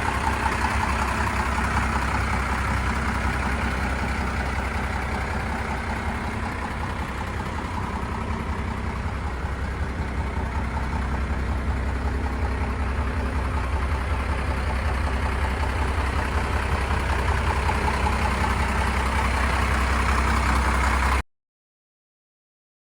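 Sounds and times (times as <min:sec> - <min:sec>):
diesel engine idling: 0:00.0 - 0:21.2.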